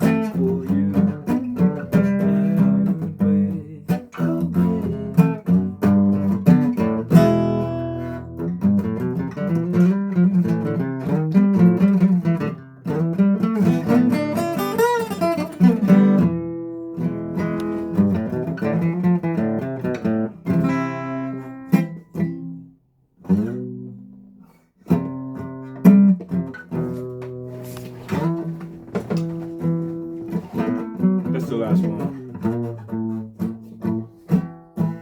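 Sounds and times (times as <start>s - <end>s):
acoustic guitar strummed: 0.0s - 35.0s.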